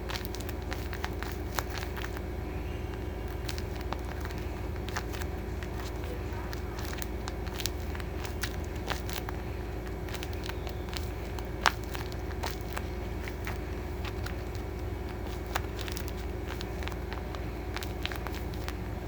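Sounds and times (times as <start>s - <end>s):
low background hum: 0.0s - 19.0s
packaging clicks and crackles: 0.0s - 19.0s.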